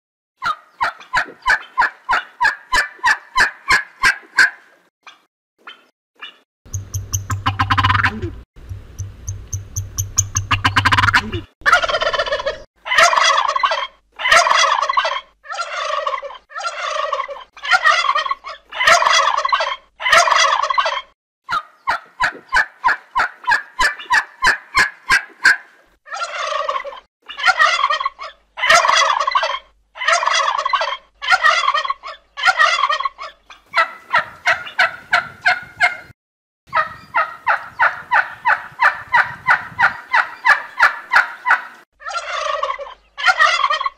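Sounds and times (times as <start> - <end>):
turkey gobbling: 0.4 - 5.2, 5.8 - 8.3, 9.4 - 36.1, 36.7 - 43.9
fast short turkey calls: 0.4 - 8.3, 9.5 - 36.1, 36.7 - 43.9.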